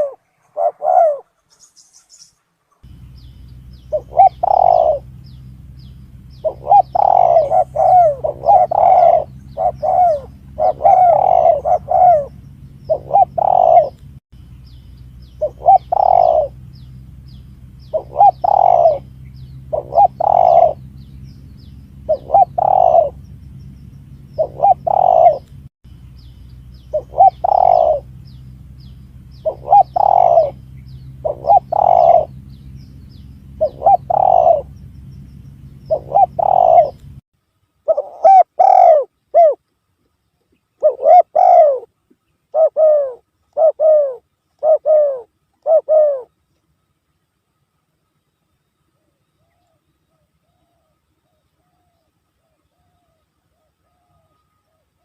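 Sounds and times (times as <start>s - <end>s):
dove cooing: 0.0s - 1.7s, 2.8s - 14.1s, 15.3s - 23.4s, 24.1s - 25.5s, 26.8s - 37.1s, 37.8s - 39.6s, 40.8s - 46.3s, 49.0s - 55.0s
steady low hum: 0.0s - 55.0s.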